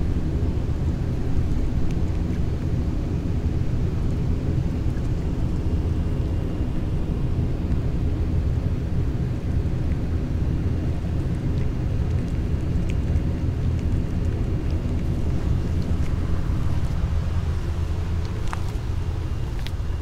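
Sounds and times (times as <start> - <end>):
cat chewing dry kibble: 0.2 - 5.9, 6.5 - 20.0.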